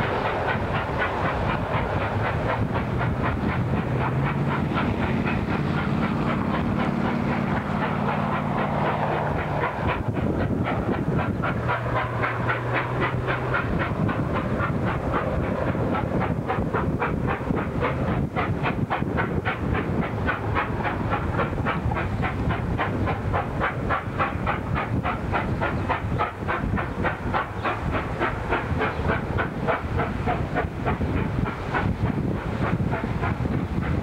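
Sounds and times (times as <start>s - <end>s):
steady rumble: 0.0s - 34.0s
steam locomotive chuffing: 0.0s - 34.0s.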